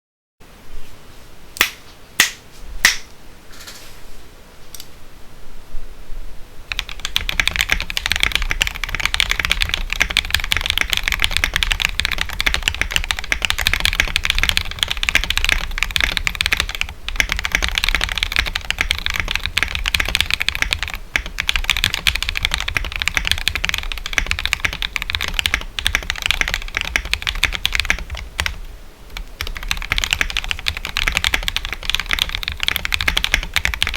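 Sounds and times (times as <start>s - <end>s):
mechanical keyboard typing: 6.7s - 33.9s.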